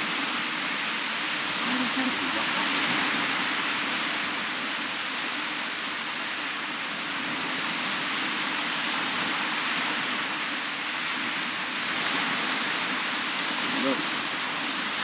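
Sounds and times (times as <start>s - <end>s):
waves washing up a beach: 0.0s - 15.0s.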